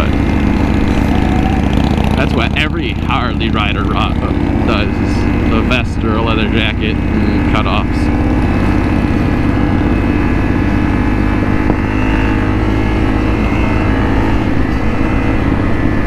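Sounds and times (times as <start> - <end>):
loud motorcycle exhaust: 0.0 - 16.0
motorcycle engine cruising: 0.0 - 16.0.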